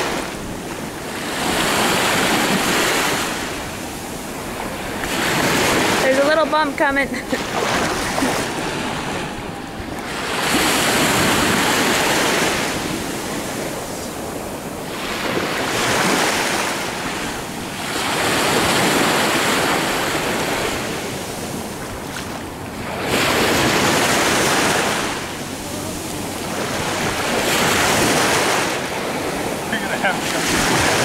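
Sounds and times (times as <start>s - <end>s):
small waves washing in shallow water: 0.0s - 31.0s.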